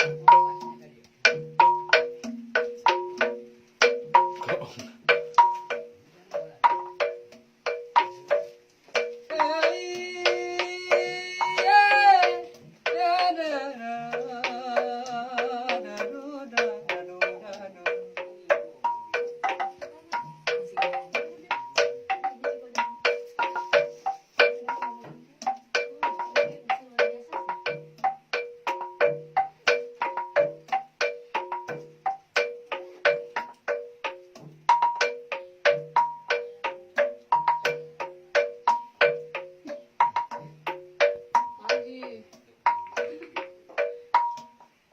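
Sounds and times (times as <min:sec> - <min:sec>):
gamelan music: 0:00.0 - 0:44.9.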